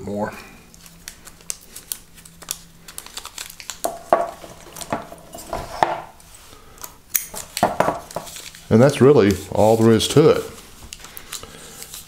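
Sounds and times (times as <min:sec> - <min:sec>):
paper rustling and crinkling: 0:00.7 - 0:05.7, 0:07.3 - 0:12.0.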